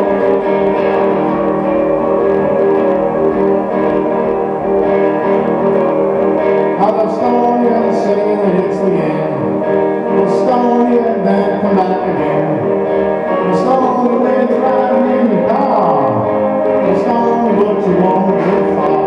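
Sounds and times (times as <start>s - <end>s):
live guitar music: 0.0s - 19.0s.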